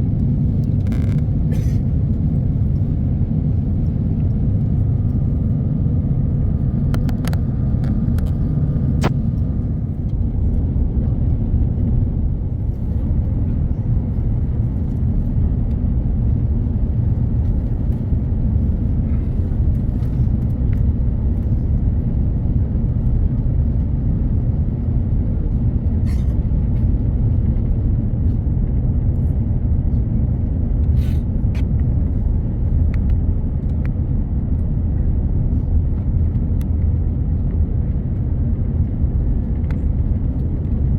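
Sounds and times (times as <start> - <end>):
airliner cabin rumble: 0.0 - 40.9.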